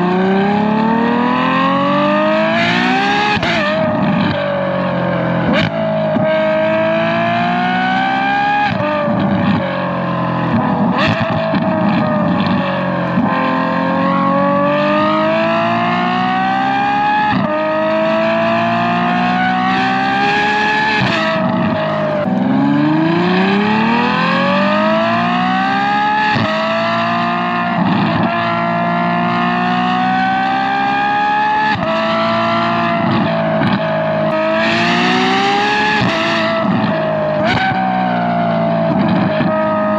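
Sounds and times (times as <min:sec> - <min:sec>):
high-pitched car engine accelerating: 0:00.0 - 0:39.9.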